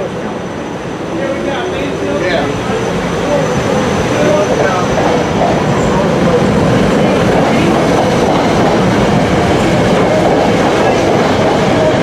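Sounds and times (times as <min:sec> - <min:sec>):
train wheels rushing on rails: 0:00.0 - 0:12.0.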